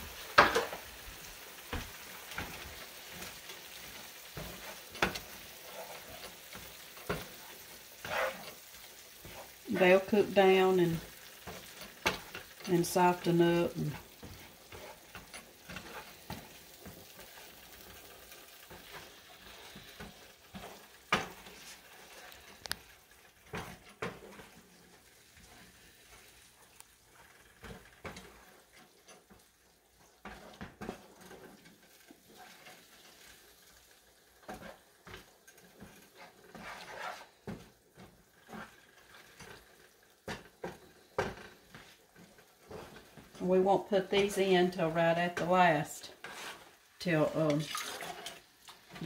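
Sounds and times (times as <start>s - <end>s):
faint sizzle: 0.0s - 49.0s
wooden spoon scraping skillet: 0.0s - 49.0s.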